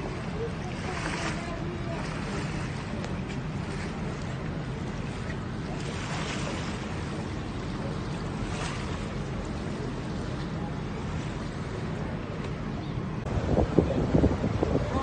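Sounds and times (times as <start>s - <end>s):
low rumble: 0.0s - 15.0s
wind and water noise: 0.0s - 15.0s
wind buffeting microphone: 0.0s - 15.0s.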